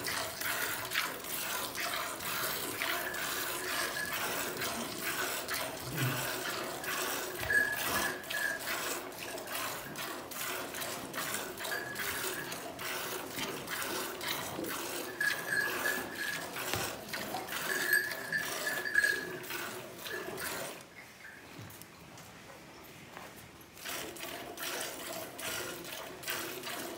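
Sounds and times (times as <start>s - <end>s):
milk squirting into a steel pail: 0.0s - 20.9s, 23.8s - 26.9s.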